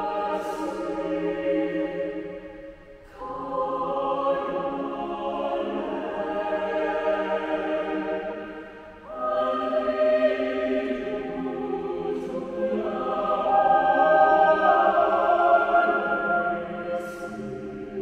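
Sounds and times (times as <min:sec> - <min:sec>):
choir singing sustained chords: 0:00.0 - 0:18.0.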